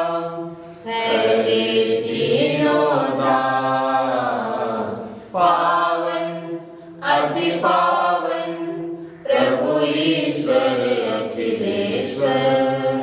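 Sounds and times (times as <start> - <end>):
unaccompanied liturgical chant: 0.0 - 13.0.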